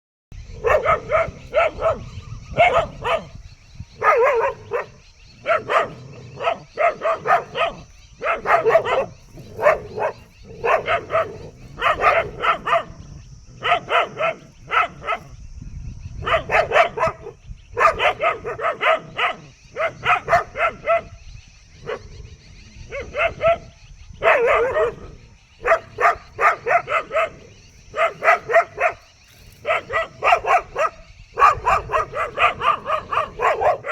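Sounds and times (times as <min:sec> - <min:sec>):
dog barking: 0:00.5 - 0:03.4, 0:04.0 - 0:15.4, 0:16.2 - 0:21.2, 0:21.8 - 0:22.2, 0:22.8 - 0:33.9.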